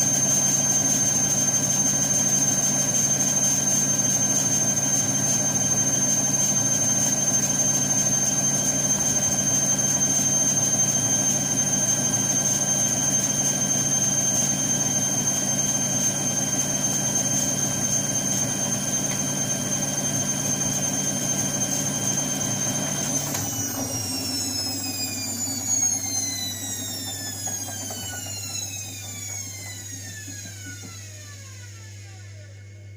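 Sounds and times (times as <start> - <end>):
washing machine spin whine: 0.0 - 32.9.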